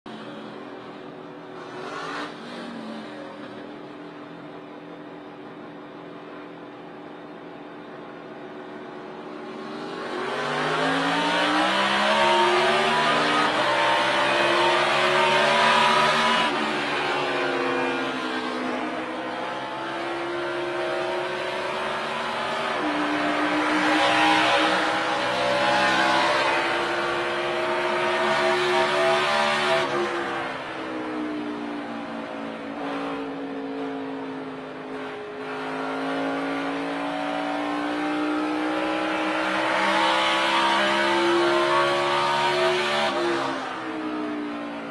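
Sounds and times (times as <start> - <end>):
race car engine revving: 0.1 - 5.9, 7.5 - 44.9.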